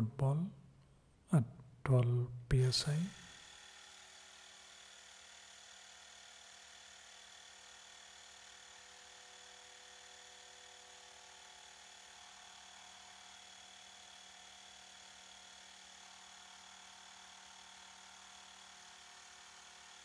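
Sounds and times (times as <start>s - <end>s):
air compressor motor humming: 2.7s - 20.0s.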